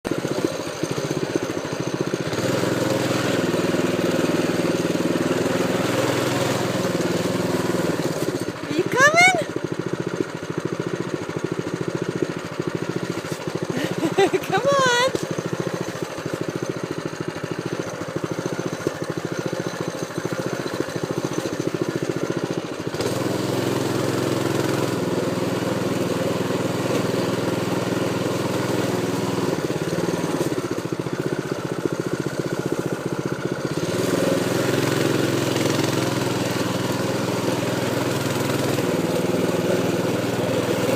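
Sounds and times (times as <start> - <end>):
motor engine running: 0.0 - 40.9.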